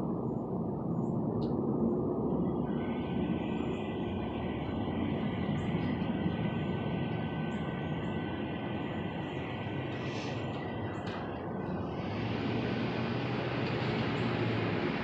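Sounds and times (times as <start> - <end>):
train-like rumbling drone: 0.0 - 15.0.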